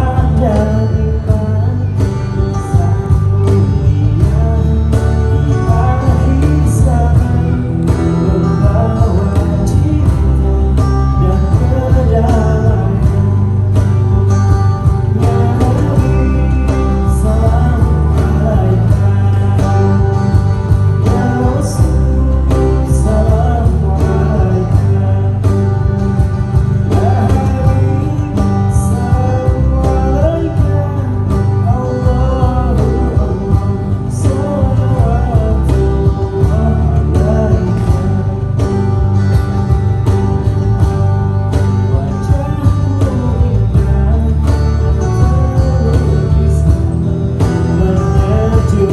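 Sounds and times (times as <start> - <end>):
guitar and bass: 0.0 - 48.9
percussion beat: 0.0 - 48.9.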